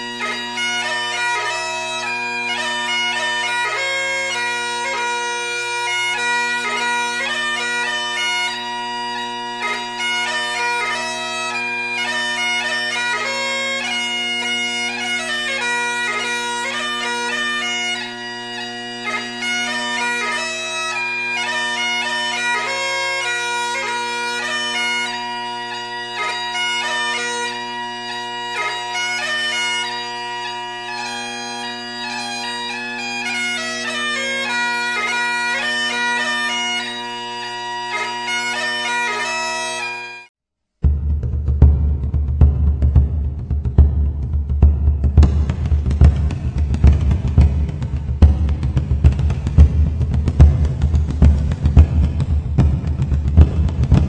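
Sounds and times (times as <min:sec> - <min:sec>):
bagpipe music: 0:00.0 - 0:40.3, 0:41.6 - 0:54.0.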